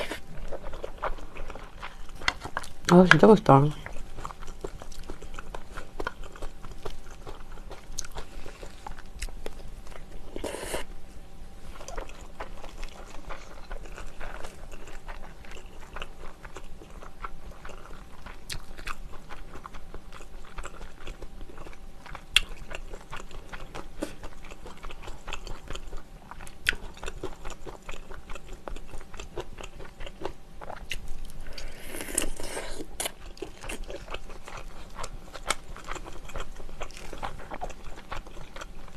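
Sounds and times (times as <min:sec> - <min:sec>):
close chewing and biting: 0:00.0 - 0:10.9, 0:11.7 - 0:38.9.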